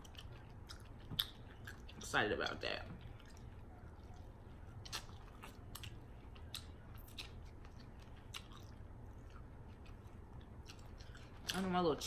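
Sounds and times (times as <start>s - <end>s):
chewing: 0.0s - 11.7s
faint low hum: 0.0s - 12.0s.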